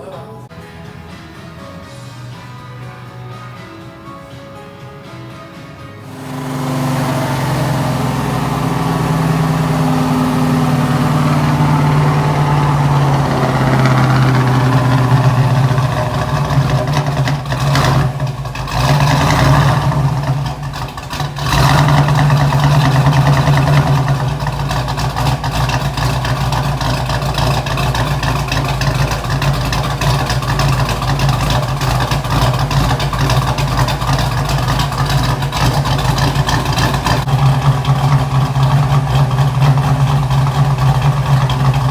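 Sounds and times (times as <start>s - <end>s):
engine running steadily: 6.0s - 41.9s.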